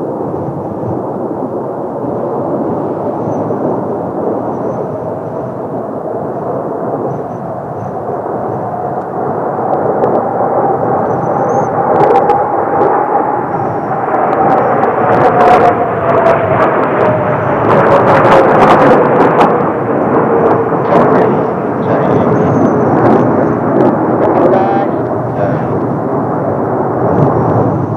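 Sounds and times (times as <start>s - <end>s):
falling jet whine: 0.0s - 27.9s
jet planes roaring past: 0.0s - 27.9s.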